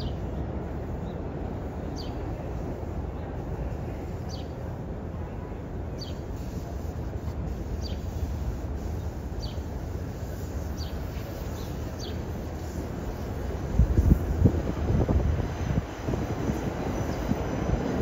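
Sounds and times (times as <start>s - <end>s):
distant subway train rumble: 0.0s - 18.0s.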